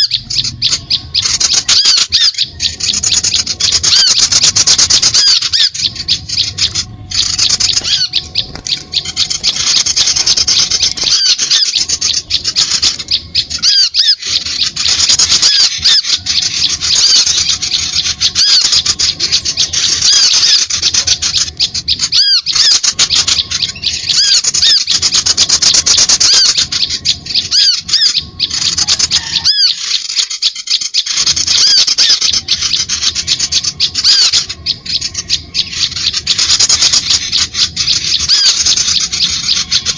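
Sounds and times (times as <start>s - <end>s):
small birds chattering and chirping: 0.0s - 39.9s.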